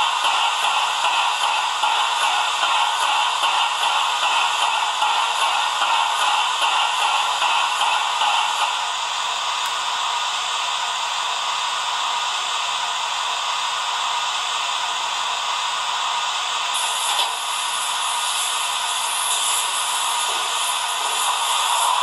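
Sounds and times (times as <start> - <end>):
steam hiss from small speaker: 0.0 - 22.0.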